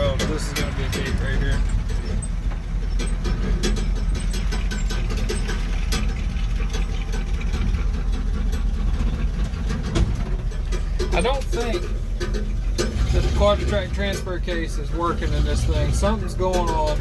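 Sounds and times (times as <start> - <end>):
clicks and rattles: 0.0 - 15.2
truck engine rumbling: 0.0 - 17.0.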